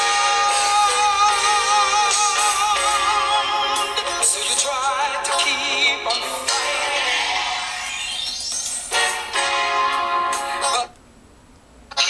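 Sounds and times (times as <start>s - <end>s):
song from phone speaker: 0.0s - 10.9s.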